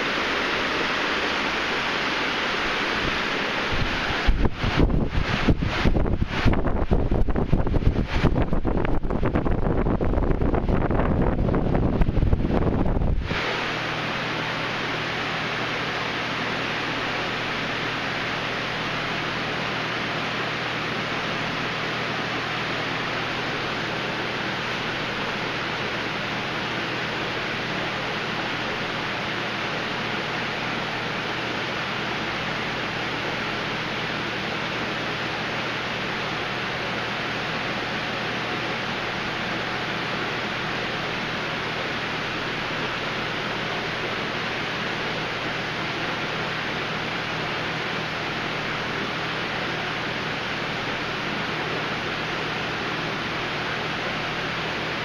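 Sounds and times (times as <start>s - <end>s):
aquarium filter water rushing: 0.0s - 55.0s
low steady hum: 0.0s - 55.0s.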